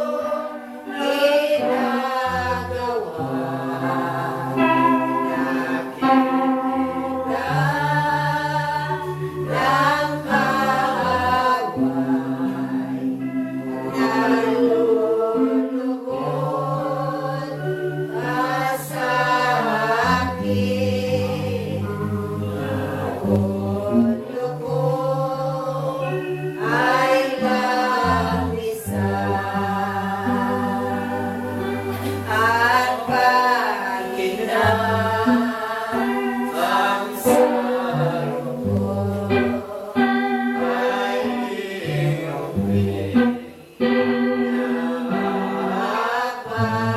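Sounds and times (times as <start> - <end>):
group singing praise: 0.0 - 46.9.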